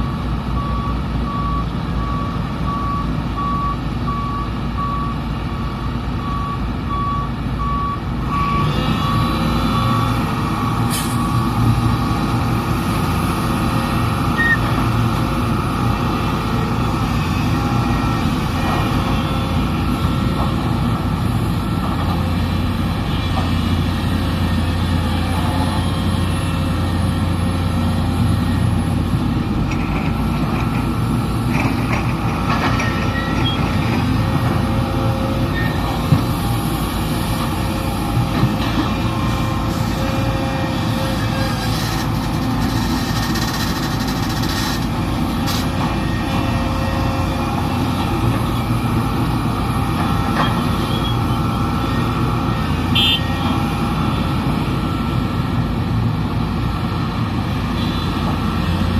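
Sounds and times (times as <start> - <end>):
heavy diesel machinery running: 0.0 - 58.9.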